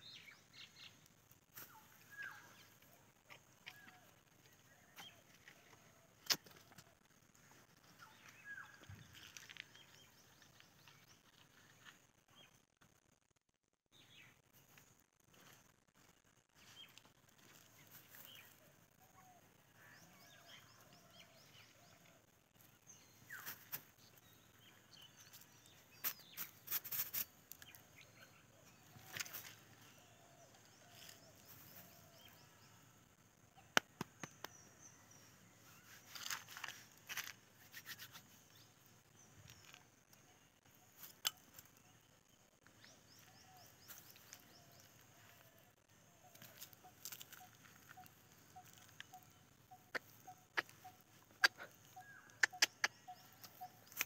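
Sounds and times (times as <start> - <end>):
faint bird chirping: 0.0 - 13.1, 13.9 - 54.0.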